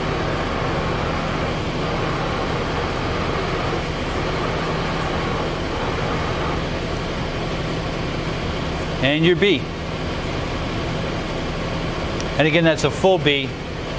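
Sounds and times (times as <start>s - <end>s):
machining center hum: 0.0s - 13.9s.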